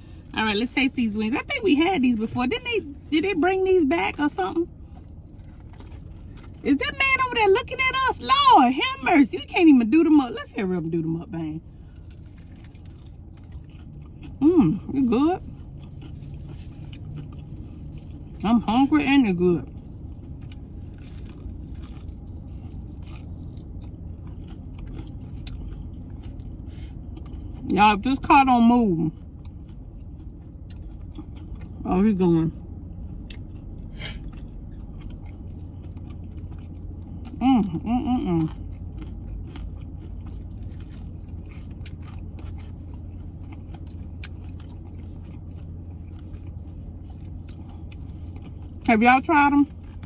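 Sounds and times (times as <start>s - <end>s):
air conditioning hum: 0.0s - 50.0s
crunchy chewing of fried chicken: 0.0s - 50.0s.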